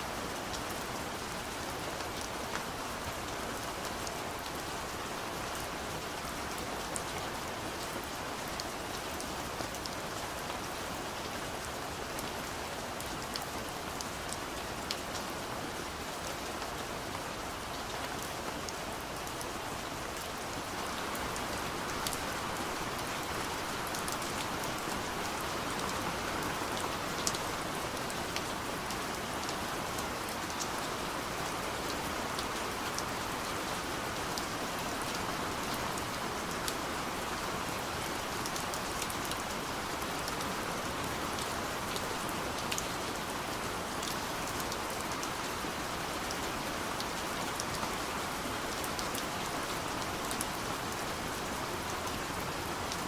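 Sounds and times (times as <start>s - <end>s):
soft rain on a window: 0.0s - 53.0s.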